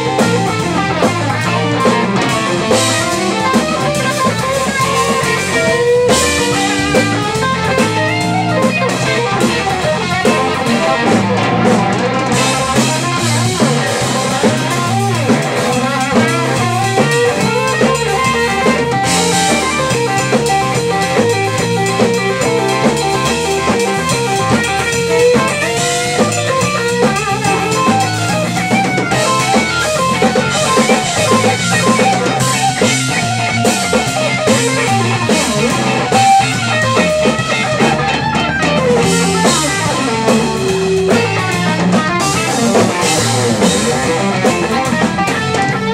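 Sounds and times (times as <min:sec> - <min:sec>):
drum kit: 0:00.0 - 0:45.9
electric bass: 0:00.0 - 0:45.9
electric guitar lead lines: 0:00.0 - 0:45.9.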